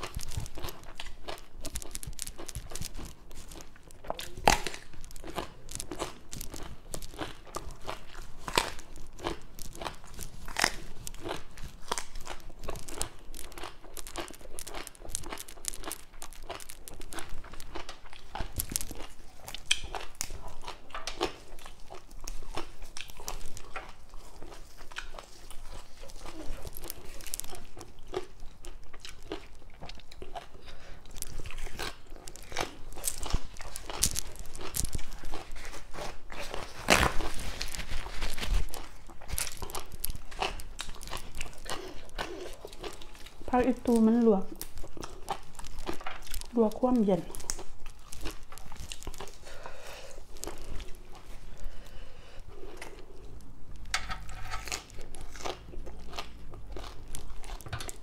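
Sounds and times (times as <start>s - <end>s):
crunching raw vegetables: 0.0s - 58.0s.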